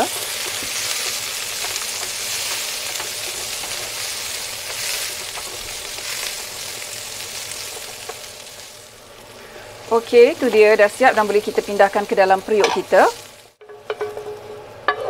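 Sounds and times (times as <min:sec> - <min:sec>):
vegetables sizzling in a frying pan: 0:00.0 - 0:13.6.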